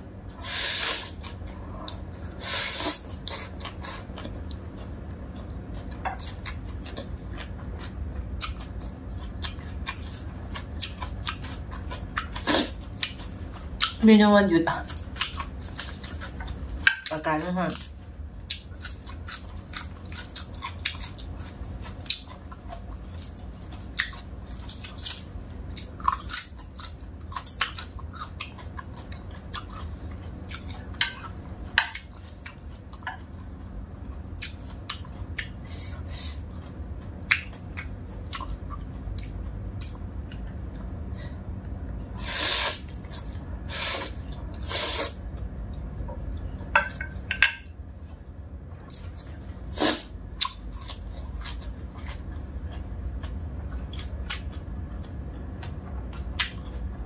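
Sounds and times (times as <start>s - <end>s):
person chewing food: 0.3s - 14.0s, 14.8s - 17.0s, 17.8s - 57.0s.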